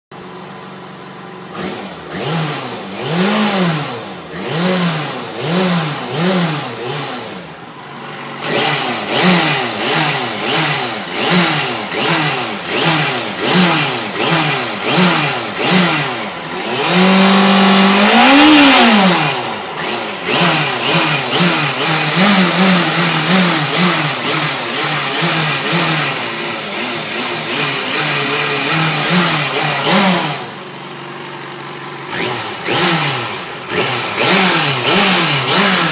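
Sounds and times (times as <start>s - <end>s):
motorcycle engine revving: 0.1s - 35.9s.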